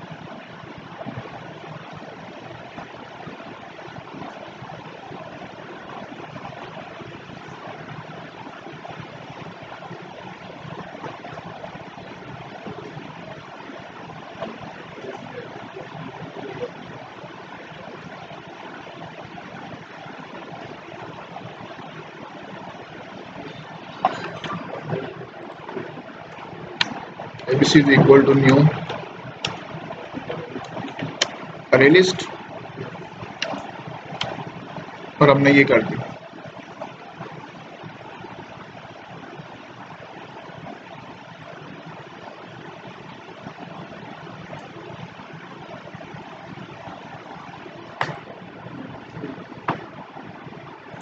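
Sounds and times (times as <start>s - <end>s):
microphone hiss: 0.0s - 51.0s
rushing background noise: 0.0s - 51.0s.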